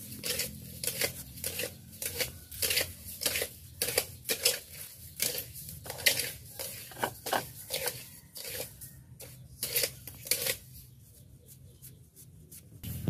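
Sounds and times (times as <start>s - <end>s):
rice grains stirred in a pan: 0.0s - 11.0s.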